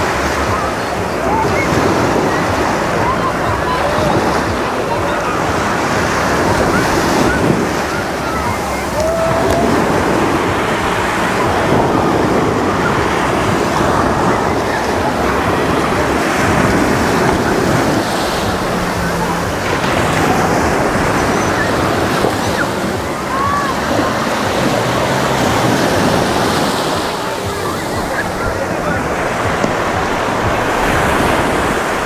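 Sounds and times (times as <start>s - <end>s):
faint voices: 0.0s - 32.0s
waves washing on beach: 0.0s - 32.0s.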